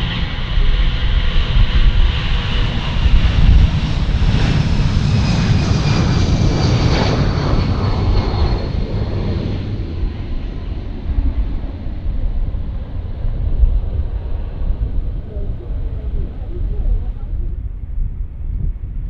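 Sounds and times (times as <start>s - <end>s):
jet aircraft passing: 0.0s - 18.2s.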